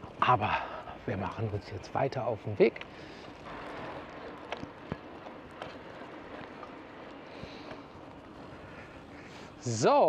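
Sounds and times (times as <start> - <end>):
bicycle tyre noise on pavement: 0.0 - 10.0.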